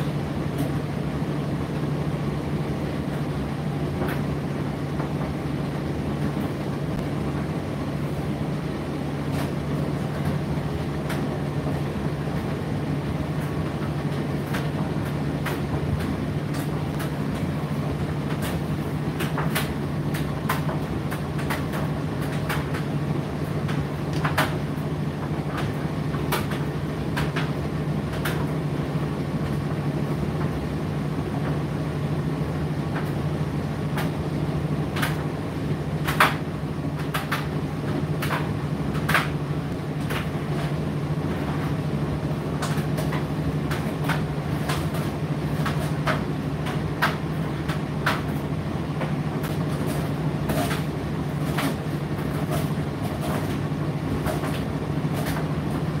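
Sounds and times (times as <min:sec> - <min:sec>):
tumble dryer humming: 0:00.0 - 0:56.0.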